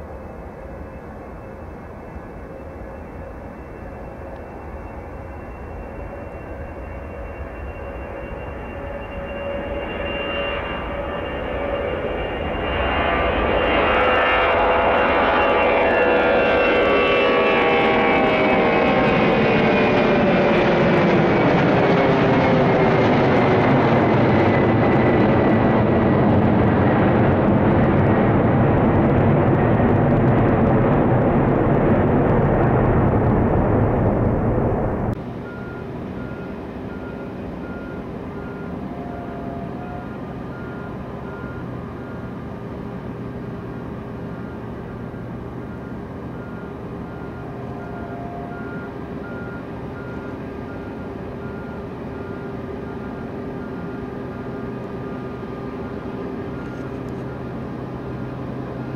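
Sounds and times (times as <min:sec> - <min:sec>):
jet engines roaring and whining: 0:00.0 - 0:58.9.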